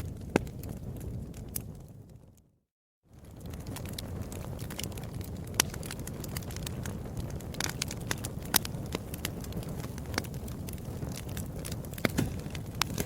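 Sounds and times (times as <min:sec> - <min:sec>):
wood fire crackling: 0:00.0 - 0:02.5, 0:03.1 - 0:13.0.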